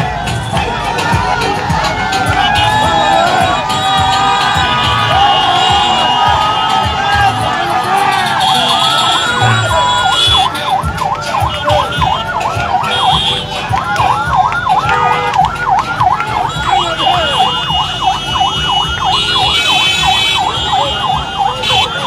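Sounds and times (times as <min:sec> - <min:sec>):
large crowd noise: 0:00.0 - 0:22.0
siren yelping: 0:00.9 - 0:22.0.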